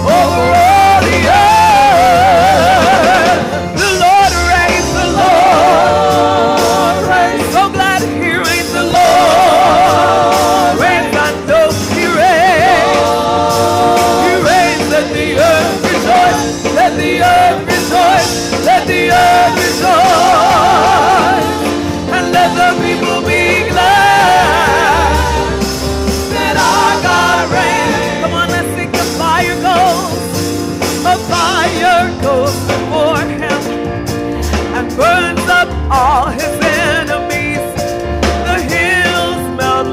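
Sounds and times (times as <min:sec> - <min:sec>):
woman singing gospel song: 0:00.0 - 0:30.4, 0:31.1 - 0:33.8, 0:34.5 - 0:37.8, 0:38.4 - 0:39.9
keyboard accompaniment: 0:00.0 - 0:39.9.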